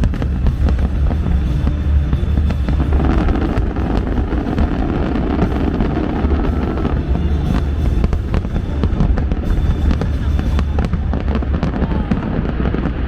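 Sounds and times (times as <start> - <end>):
fireworks crackling and bursting: 0.0 - 13.0
heavy low rumble: 0.0 - 13.0
loud show music: 0.0 - 13.0.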